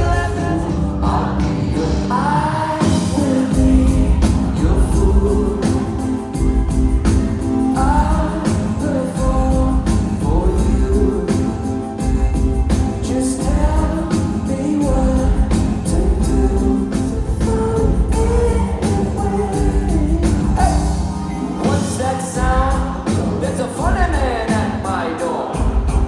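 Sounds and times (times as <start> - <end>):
live band playing: 0.0 - 26.0
person singing: 0.0 - 26.0
steady drum beat: 0.0 - 26.0.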